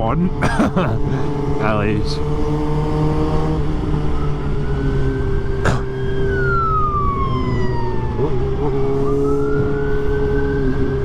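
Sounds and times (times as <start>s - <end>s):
motorcycle engine cruising: 0.0s - 11.0s
road and wind noise: 0.0s - 11.0s.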